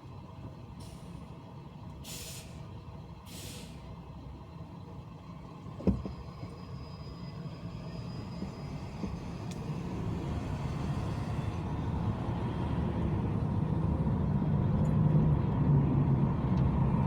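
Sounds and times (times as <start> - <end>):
car driving in traffic: 0.0 - 17.0.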